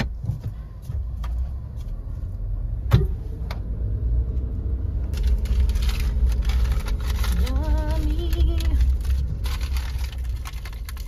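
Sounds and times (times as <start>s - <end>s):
car engine running: 0.3s - 11.0s.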